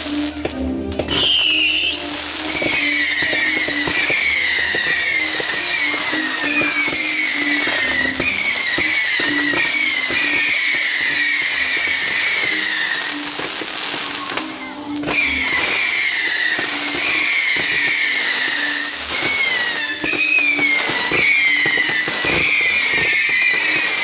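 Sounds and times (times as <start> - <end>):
fireworks crackling pops: 0.0 - 24.0
fireworks whistling: 0.0 - 24.0.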